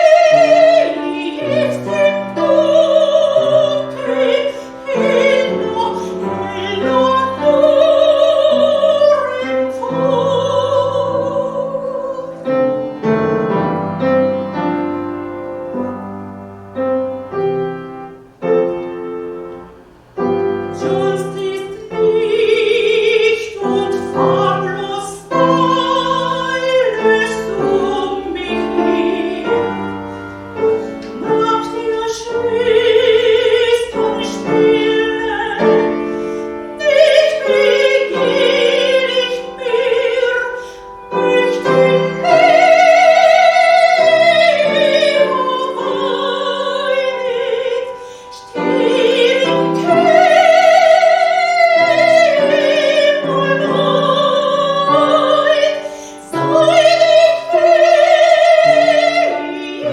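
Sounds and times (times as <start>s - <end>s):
piano accompaniment: 0.0s - 59.9s
soprano singing with vibrato: 0.0s - 59.9s.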